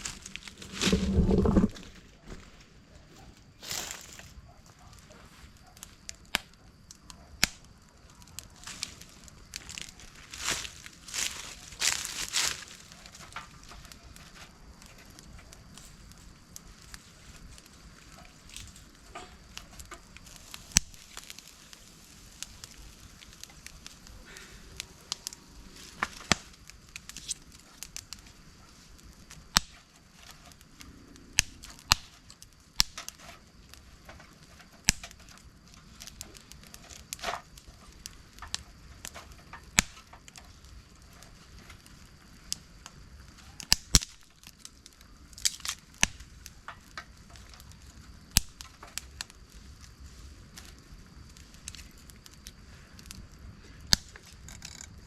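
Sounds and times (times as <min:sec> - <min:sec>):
campfire crackling: 0:00.0 - 0:55.0
faint steady hiss: 0:00.0 - 0:55.0.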